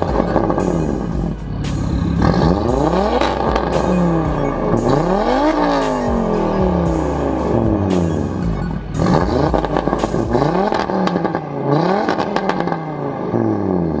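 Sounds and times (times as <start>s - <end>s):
exhaust crackles and pops: 0.0s - 6.3s, 9.0s - 14.0s
car engine revving: 0.0s - 14.0s.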